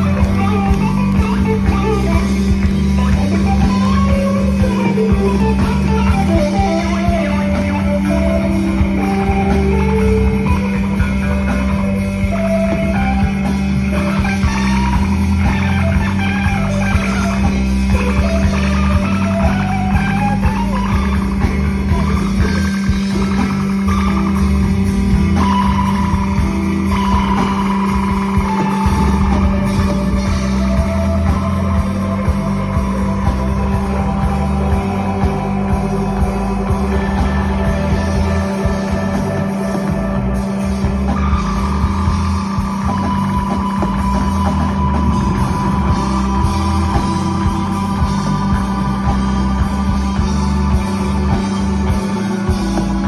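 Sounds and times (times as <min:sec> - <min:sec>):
bass line: 0:00.0 - 0:53.0
drums: 0:00.0 - 0:53.0
electric guitar bending melody: 0:00.0 - 0:53.0.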